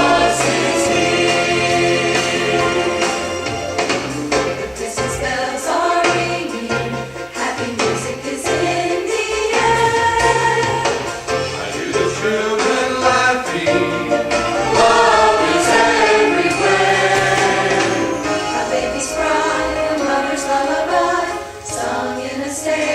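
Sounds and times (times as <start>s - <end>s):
choir singing with accompaniment: 0.0s - 22.9s.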